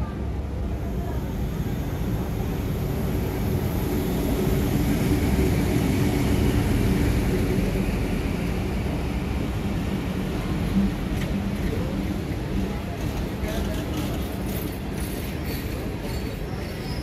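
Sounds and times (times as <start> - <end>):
train coaches rumbling on rails: 0.0 - 17.0.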